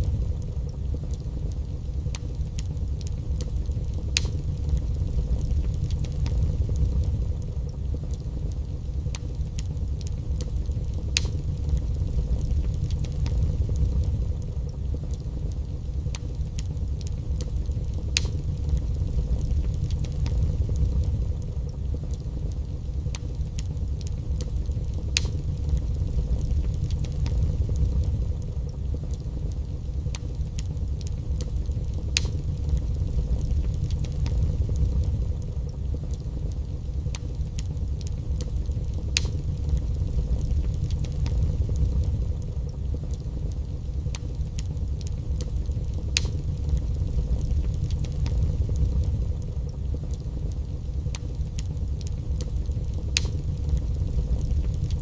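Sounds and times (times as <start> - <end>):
fire crackling and popping: 0.0 - 55.0
low fire rumble: 0.0 - 55.0.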